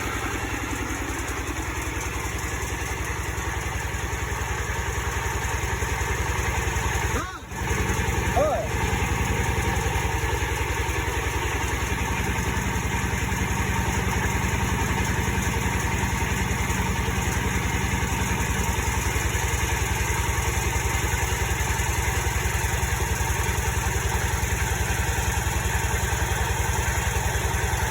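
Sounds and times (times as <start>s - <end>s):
drilling machine engine idling: 0.0s - 27.9s.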